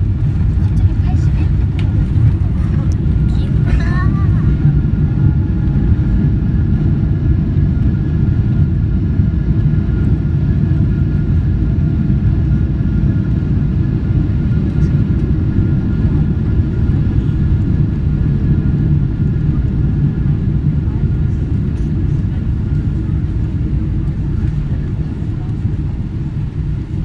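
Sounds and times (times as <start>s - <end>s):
aircraft cabin low rumble: 0.0s - 27.0s.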